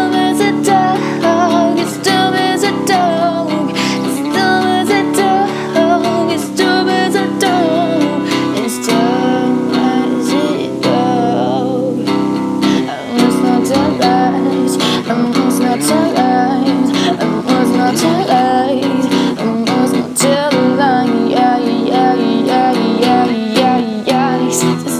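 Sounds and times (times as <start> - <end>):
strummed acoustic guitar: 0.0 - 24.9.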